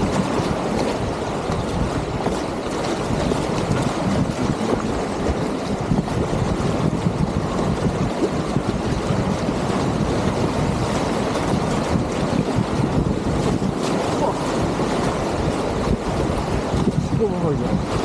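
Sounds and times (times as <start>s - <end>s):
rushing whitewater: 0.0s - 18.0s.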